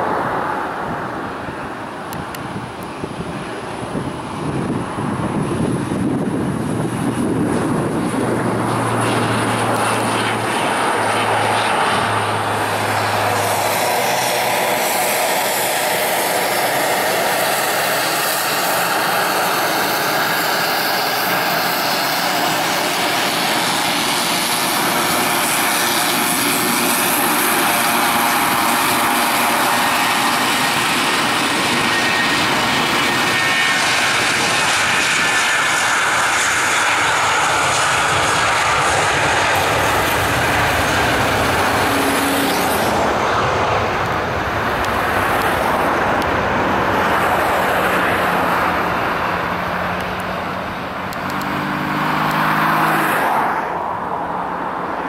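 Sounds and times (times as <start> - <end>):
low steady turboprop hum: 0.0 - 51.9
jet engines running loudly: 0.0 - 55.0.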